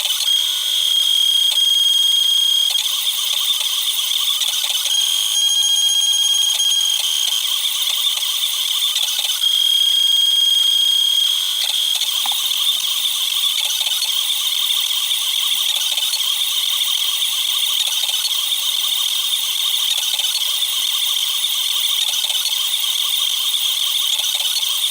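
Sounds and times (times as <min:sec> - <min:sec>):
printer motors whining and rattling: 0:00.0 - 0:24.9.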